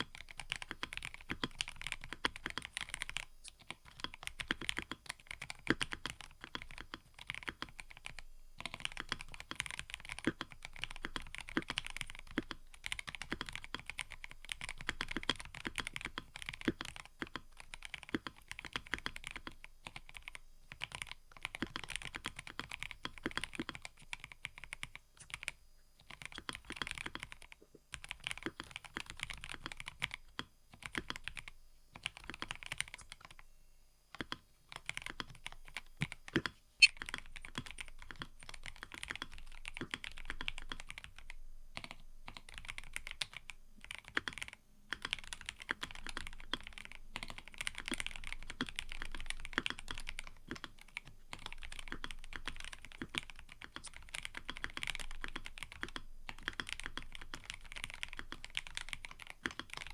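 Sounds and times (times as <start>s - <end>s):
mechanical keyboard typing: 0.0s - 33.4s, 34.1s - 59.9s.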